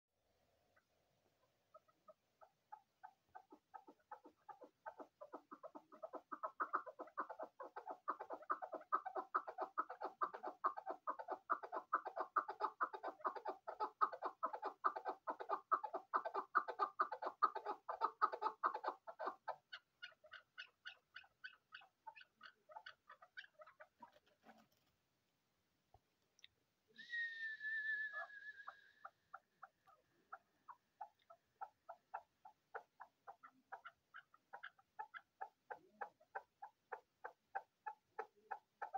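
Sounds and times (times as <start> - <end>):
partridge calling: 1.7 - 24.3, 28.1 - 38.9.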